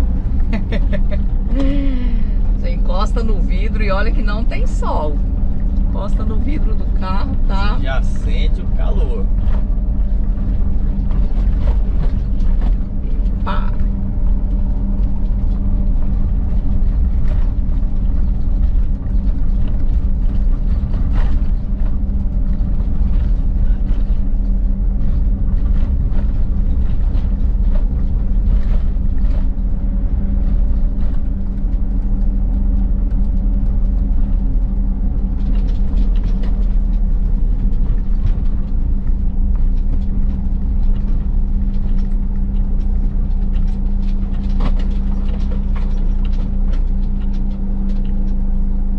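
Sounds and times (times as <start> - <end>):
car engine and tyres droning: 0.0 - 48.9
constant low hum: 0.0 - 48.9.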